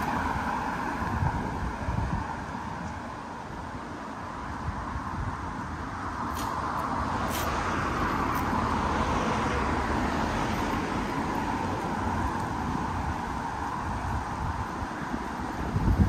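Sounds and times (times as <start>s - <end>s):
low traffic rumble: 0.0s - 16.0s
passing car: 0.0s - 16.0s.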